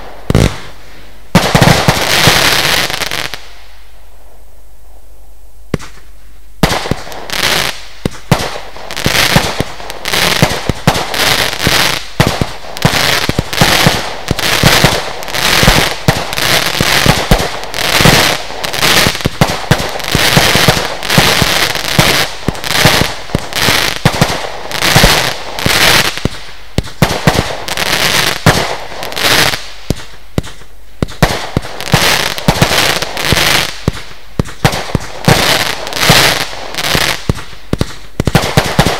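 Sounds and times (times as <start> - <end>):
fireworks launching and bursting: 0.0 - 5.0, 5.7 - 38.9.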